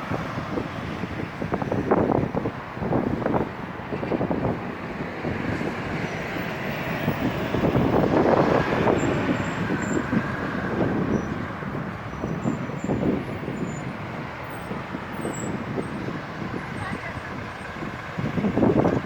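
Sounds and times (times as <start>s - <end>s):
stormy wind gusting: 0.0s - 19.0s
urban noise: 0.0s - 19.0s
wind buffeting microphone: 0.0s - 19.0s.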